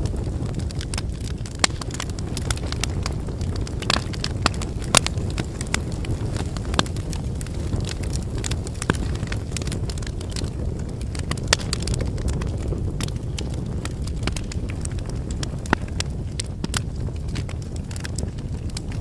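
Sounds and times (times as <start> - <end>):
logs crackling and popping: 0.0 - 19.0
low rush of flames: 0.0 - 19.0.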